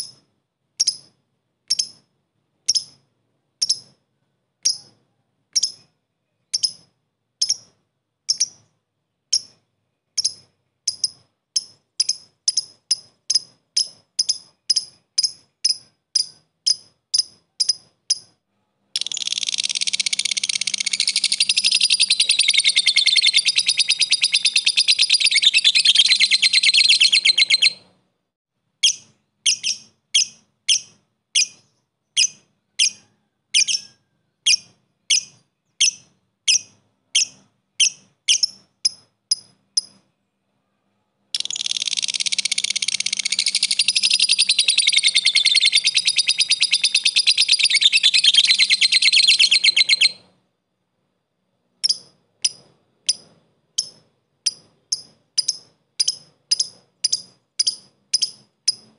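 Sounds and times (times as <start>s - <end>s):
lovebird chattering trill: 0.8s - 1.1s, 1.7s - 2.0s, 2.7s - 3.0s, 3.6s - 4.0s, 4.6s - 5.9s, 6.5s - 8.7s, 9.3s - 9.6s, 10.2s - 18.4s, 19.0s - 27.9s, 28.8s - 40.0s, 41.3s - 50.3s, 51.8s - 58.9s
lovebird chipping calls: 0.8s - 1.1s, 1.7s - 2.1s, 2.7s - 3.0s, 3.6s - 4.0s, 5.5s - 5.9s, 6.5s - 8.7s, 10.2s - 18.3s, 19.0s - 27.8s, 28.8s - 40.0s, 41.3s - 50.3s, 51.8s - 58.9s.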